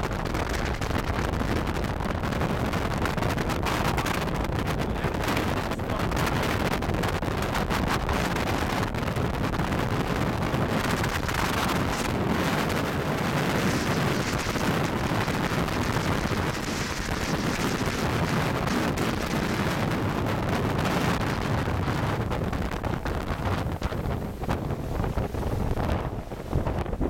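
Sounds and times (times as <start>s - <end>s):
boat rushing over choppy water: 0.0s - 27.0s
wind buffeting microphone: 0.0s - 27.0s.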